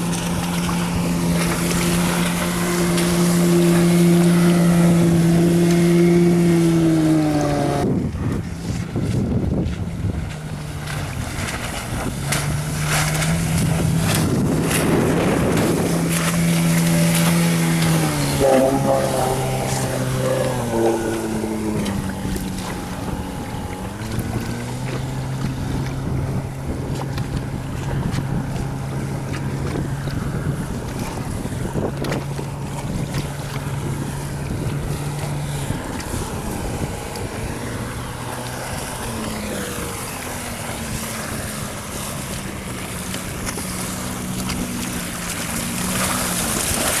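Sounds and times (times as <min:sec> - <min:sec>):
outboard motor droning: 0:00.0 - 0:47.0
water noise: 0:00.0 - 0:47.0
wind: 0:00.0 - 0:47.0.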